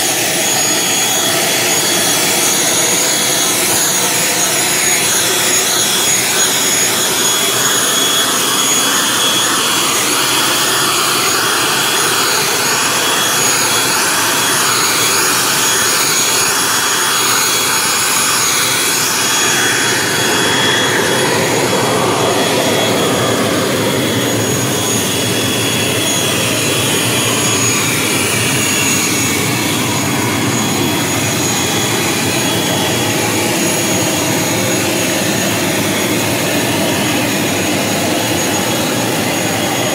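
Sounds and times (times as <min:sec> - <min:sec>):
aircraft turbine engine running: 0:00.0 - 0:39.9.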